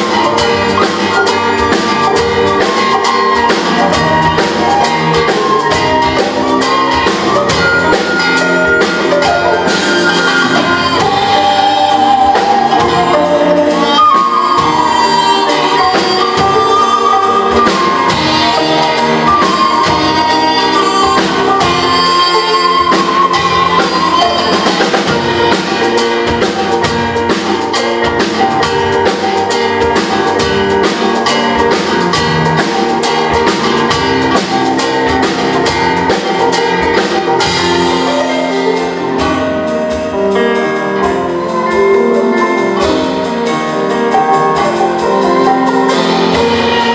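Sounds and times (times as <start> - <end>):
ensemble playing melody: 0.0 - 46.9
steady percussion: 0.0 - 46.9.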